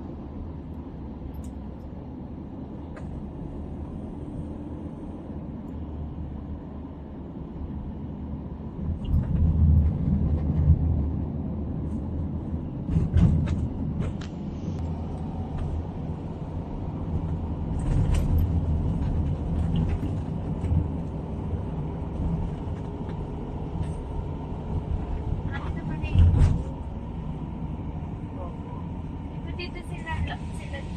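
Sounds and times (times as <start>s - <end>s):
tyre and engine rumble: 0.7s - 30.9s.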